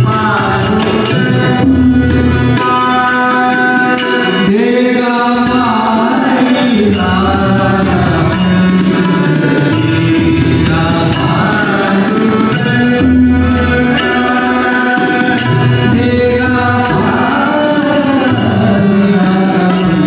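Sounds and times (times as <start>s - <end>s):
men singing: 0.0s - 20.0s.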